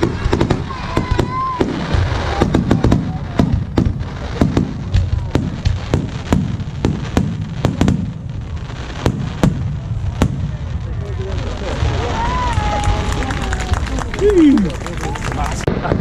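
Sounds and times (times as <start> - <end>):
low rumble of explosions: 0.0 - 14.2
fireworks bangs: 0.0 - 16.0.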